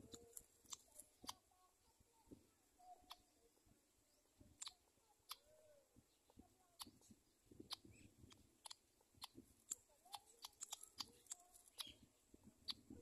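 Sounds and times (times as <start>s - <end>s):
faint clicks and ticks: 0.0s - 13.0s.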